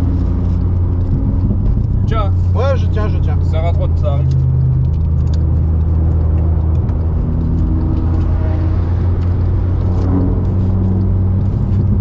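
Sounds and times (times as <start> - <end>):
car engine droning in cabin: 0.0 - 12.0.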